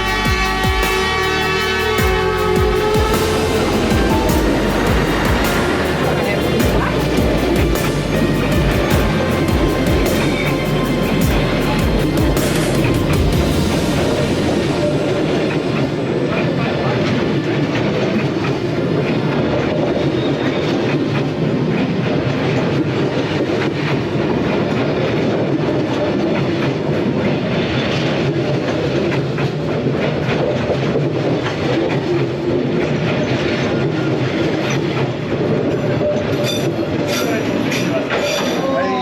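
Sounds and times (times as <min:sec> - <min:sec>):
train wheels clattering over rails: 0:00.0 - 0:39.0.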